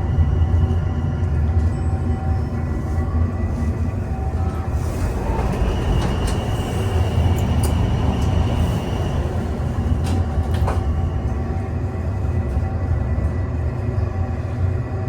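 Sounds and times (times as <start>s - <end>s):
metro train rumbling: 0.0s - 15.0s.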